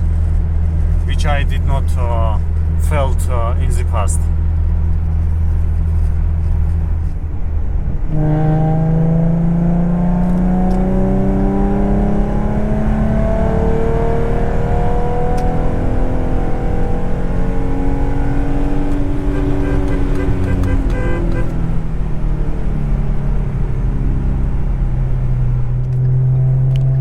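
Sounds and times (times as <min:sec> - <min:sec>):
car engine accelerating: 0:00.0 - 0:27.0
road drone inside car: 0:00.0 - 0:27.0.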